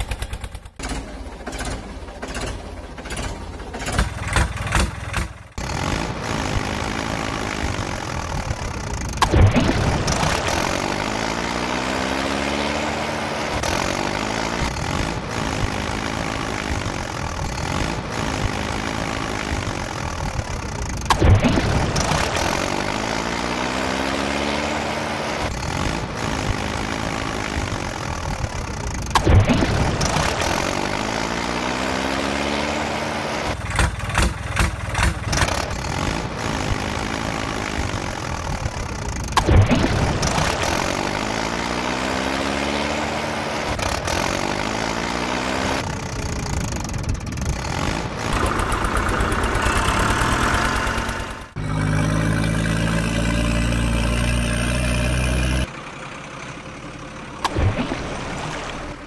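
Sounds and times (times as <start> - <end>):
steady engine hum: 0.0 - 59.0
motor revving up and down: 4.3 - 46.8, 47.4 - 55.7.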